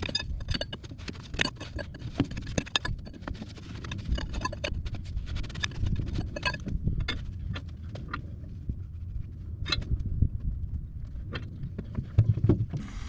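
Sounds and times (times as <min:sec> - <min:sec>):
low rumble of handling noise: 0:00.0 - 0:13.0.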